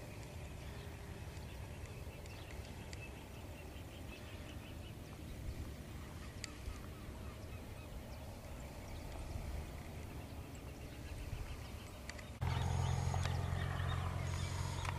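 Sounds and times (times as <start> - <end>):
low wind rumble: 0.0 - 14.9
faint bird calls: 0.2 - 14.9.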